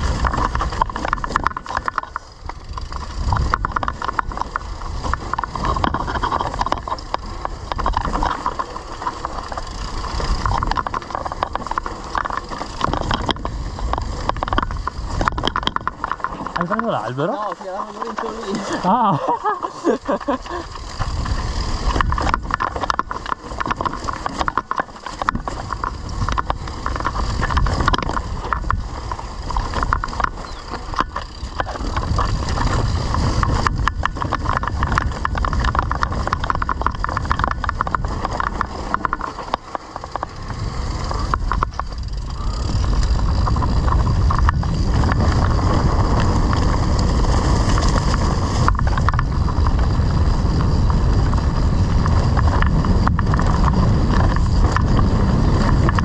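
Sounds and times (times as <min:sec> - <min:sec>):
bike frame and chain clattering: 0:00.0 - 0:56.0
wind rumble on microphone: 0:00.0 - 0:56.0.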